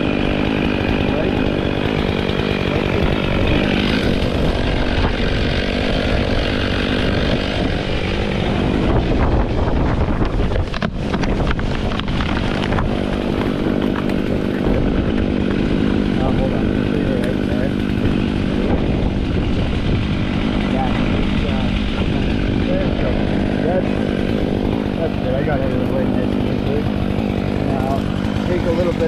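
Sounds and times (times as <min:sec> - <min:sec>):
chainsaw running at high revs: 0:00.0 - 0:29.0
wind rumble on microphone: 0:03.0 - 0:26.2.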